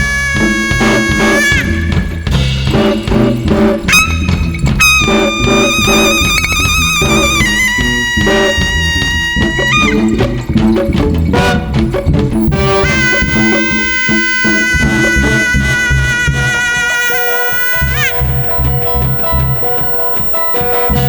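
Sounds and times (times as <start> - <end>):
wind instrument long wavering notes: 0.0 - 11.8, 12.4 - 21.0
band music with drums and bass: 0.0 - 21.0.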